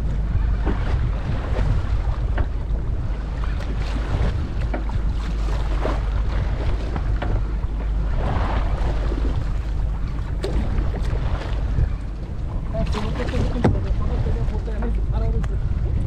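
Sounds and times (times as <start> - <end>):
water splashing along hull: 0.0 - 16.0
wind on microphone: 0.0 - 16.0.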